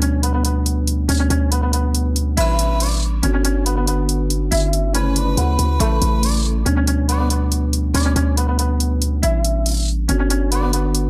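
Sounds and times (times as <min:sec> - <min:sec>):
instrumental music with plucked notes: 0:00.0 - 0:11.0
steady beat: 0:00.0 - 0:11.0.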